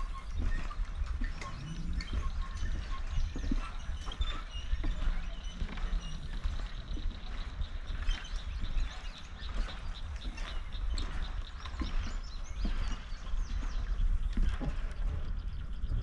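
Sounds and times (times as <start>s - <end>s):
birds chirping: 0.0s - 16.0s
footsteps on wooden planks: 0.0s - 16.0s
wind rumble on microphone: 0.0s - 16.0s.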